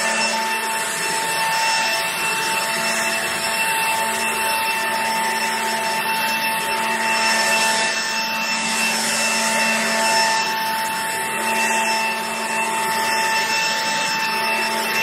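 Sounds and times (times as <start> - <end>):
electric leaf blower running: 0.0 - 15.0.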